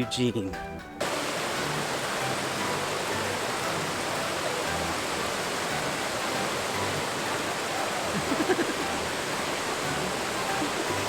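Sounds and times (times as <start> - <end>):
waterfall rushing: 1.0 - 11.0.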